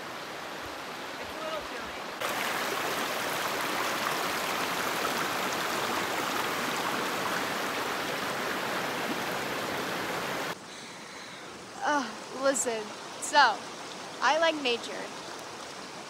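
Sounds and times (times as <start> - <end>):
river water running over rocks: 0.0 - 16.0.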